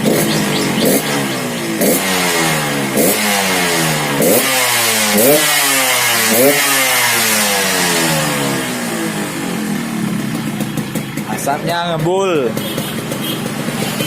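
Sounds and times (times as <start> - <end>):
two-stroke motorcycle engine revving: 0.0 - 14.0.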